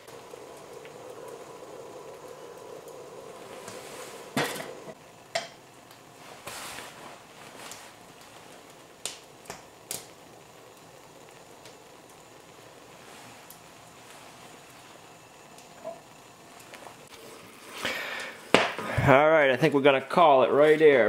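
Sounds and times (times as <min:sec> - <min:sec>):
syrup bubbling: 0:00.0 - 0:19.0.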